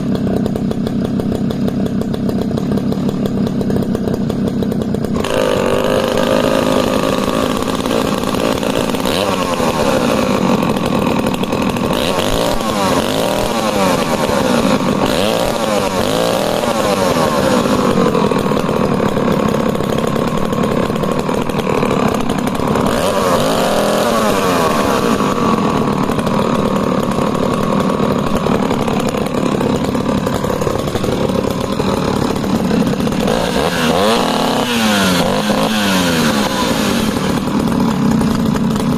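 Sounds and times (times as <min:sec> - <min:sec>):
two-stroke chainsaws revving: 0:00.0 - 0:38.9.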